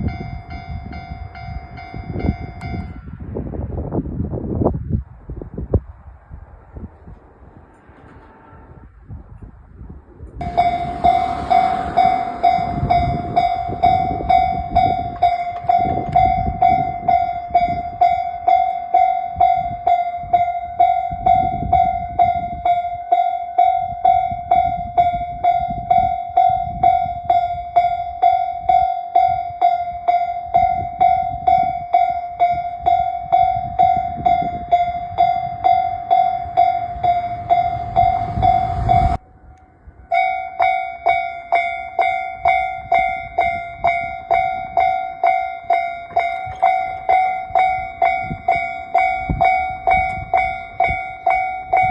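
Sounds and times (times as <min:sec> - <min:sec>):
level-crossing warning bell ringing: 0:00.0 - 0:03.2, 0:10.4 - 0:51.9.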